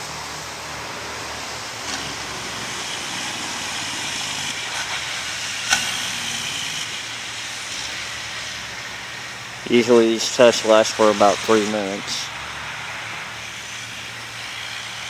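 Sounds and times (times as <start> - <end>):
street traffic tyre hiss: 0.0 - 15.0.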